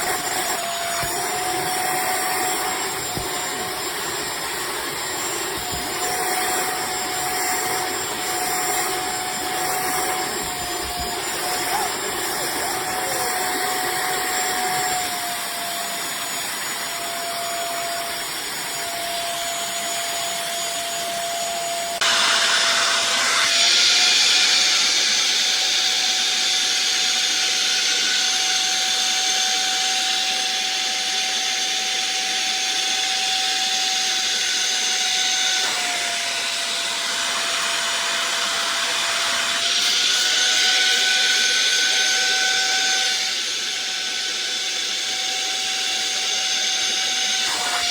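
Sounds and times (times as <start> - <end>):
vacuum cleaner motor whine: 0.0 - 47.9.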